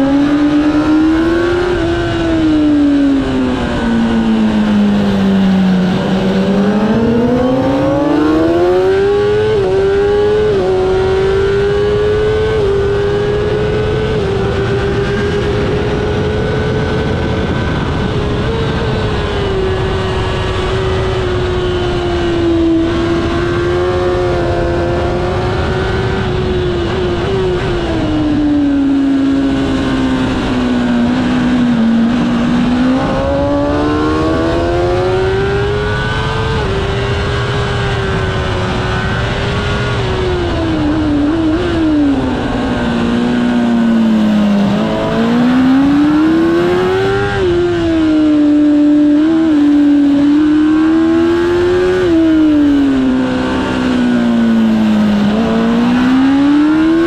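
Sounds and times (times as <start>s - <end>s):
heavy wind rush: 0.0s - 57.0s
motorcycle engine at high revs: 0.0s - 57.0s.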